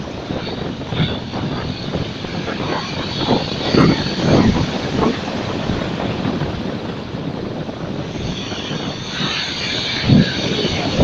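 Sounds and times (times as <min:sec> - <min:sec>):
waves breaking: 0:00.0 - 0:11.0.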